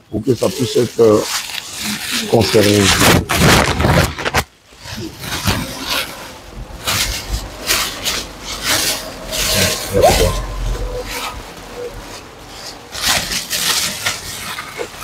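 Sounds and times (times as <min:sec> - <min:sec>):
plastic bags rustling and crinkling: 0:00.0 - 0:15.0.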